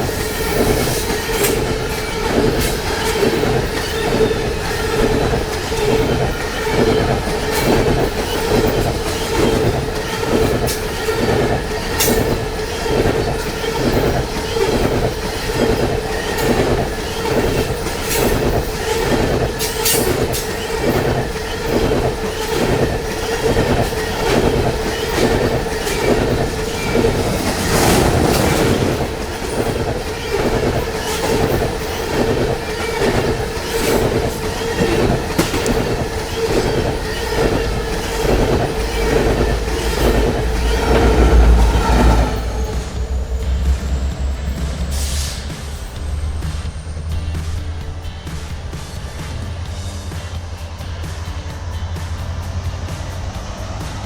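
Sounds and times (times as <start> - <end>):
train wheels clicking over rail joints: 0.0 - 54.0
train whine: 0.0 - 54.0.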